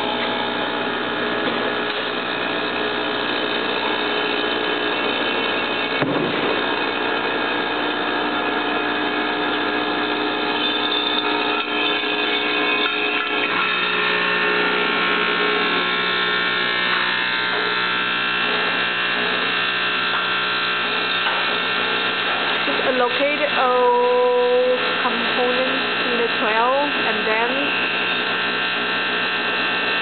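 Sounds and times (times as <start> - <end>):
machine electric buzz: 0.0 - 30.0.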